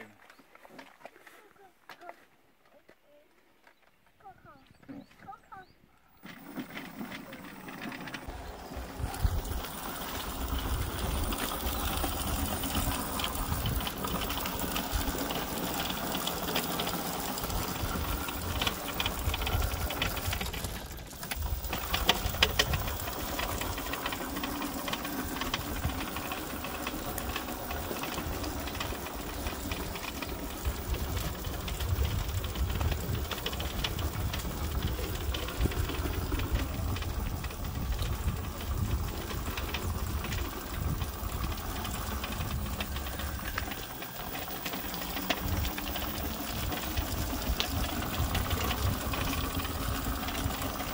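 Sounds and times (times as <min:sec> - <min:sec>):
electric motor whirring: 0:06.2 - 0:50.9.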